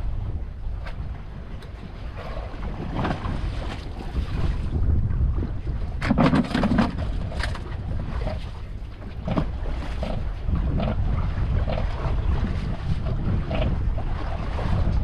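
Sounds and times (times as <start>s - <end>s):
water slapping against boat: 0.0s - 15.0s
wind buffeting microphone: 0.0s - 15.0s.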